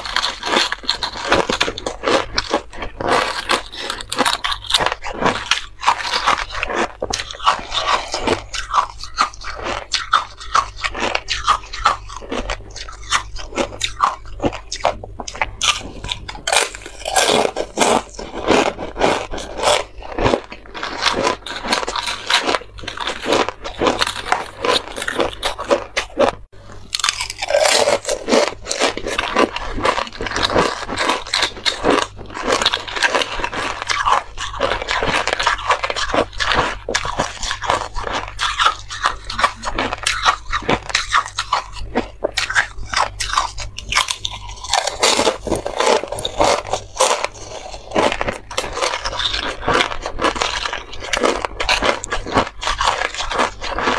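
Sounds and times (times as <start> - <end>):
biting and crunching ice chips: 0.0 - 53.9.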